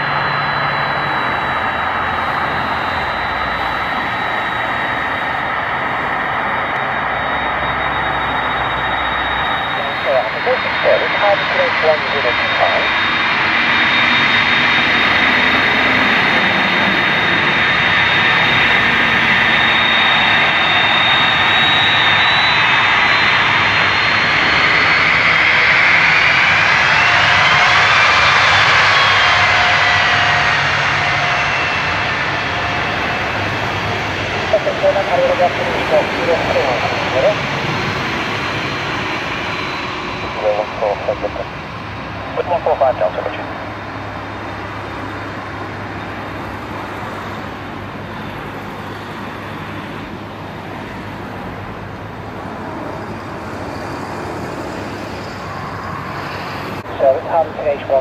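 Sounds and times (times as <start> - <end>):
jet engine roar with whine: 0.0 - 58.0.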